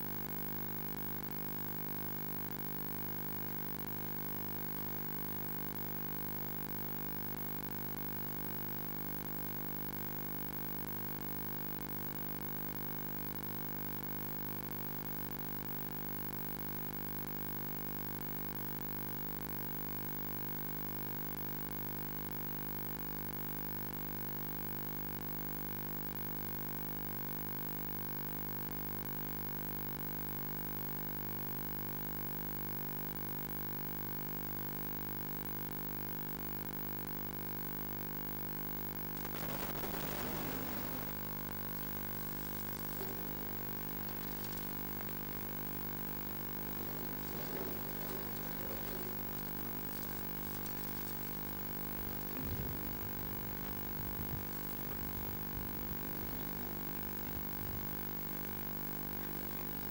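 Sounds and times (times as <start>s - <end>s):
electronic hum: 0.0s - 59.9s.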